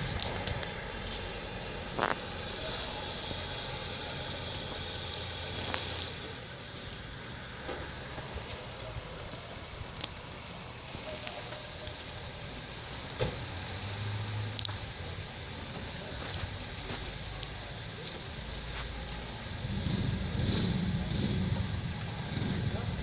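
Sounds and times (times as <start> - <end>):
rain falling: 0.0 - 23.0
raindrops tapping: 0.0 - 23.0.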